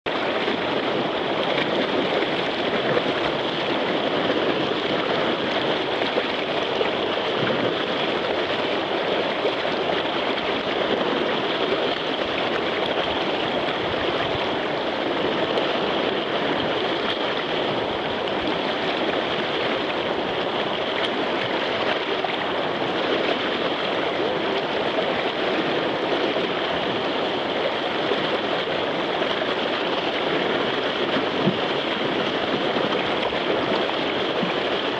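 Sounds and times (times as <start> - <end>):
river rushing over rapids: 0.1 - 34.9.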